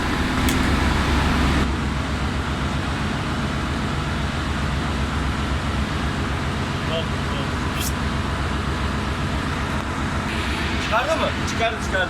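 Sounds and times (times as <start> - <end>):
engine room machinery drone: 0.0 - 12.0.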